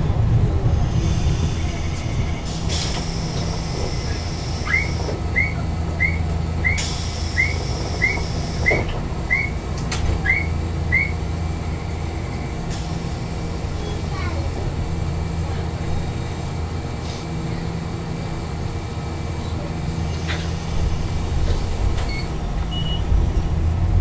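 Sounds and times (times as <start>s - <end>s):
tram low hum: 0.0s - 24.0s.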